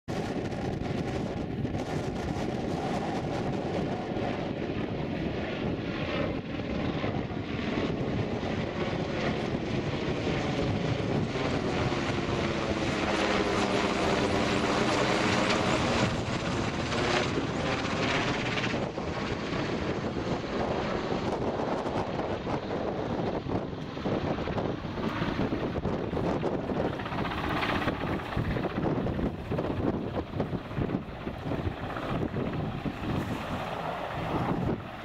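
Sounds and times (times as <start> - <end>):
helicopter flying overhead: 0.1 - 35.0.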